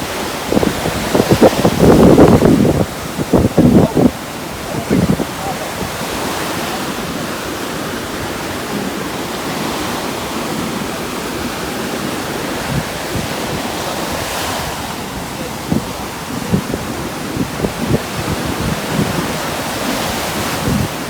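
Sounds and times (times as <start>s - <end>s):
ocean surf: 0.0s - 21.0s
strong wind: 0.0s - 21.0s.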